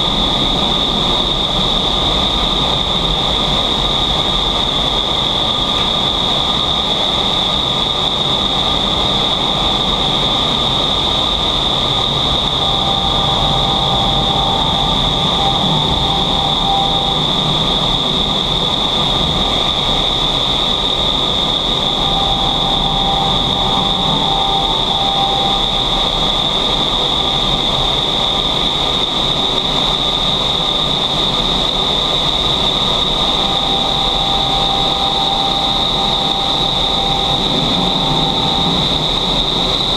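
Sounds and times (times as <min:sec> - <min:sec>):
constant high whine: 0:00.0 - 0:39.9
loud rush of air: 0:00.0 - 0:39.9.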